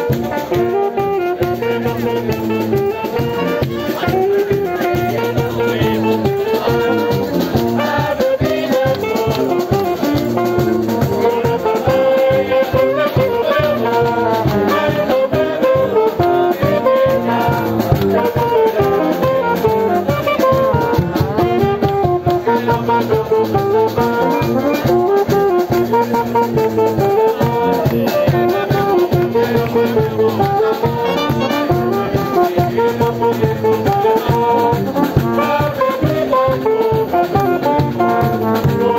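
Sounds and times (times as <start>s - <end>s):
snare and bass drum beat: 0.0s - 38.9s
wind band playing: 0.0s - 38.9s.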